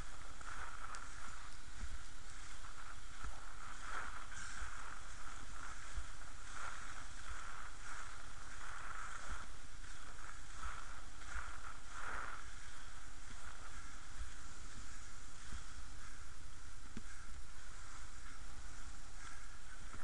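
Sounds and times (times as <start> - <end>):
skates rolling on asphalt: 0.0 - 20.0
wind buffeting microphone: 0.0 - 20.0.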